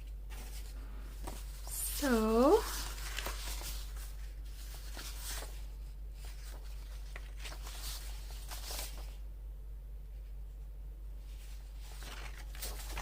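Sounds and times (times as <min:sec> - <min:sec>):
paper rustling and scratching: 0:00.0 - 0:09.2, 0:11.2 - 0:13.0
low steady hum: 0:00.0 - 0:13.0.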